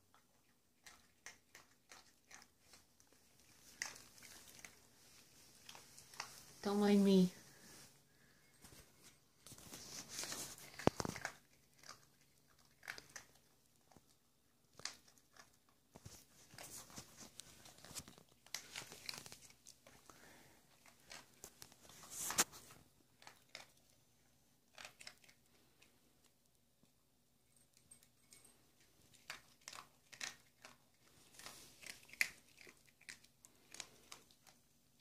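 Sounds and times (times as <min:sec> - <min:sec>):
dog crunching dry kibble: 0:00.1 - 0:06.6, 0:09.5 - 0:26.4, 0:28.8 - 0:35.0.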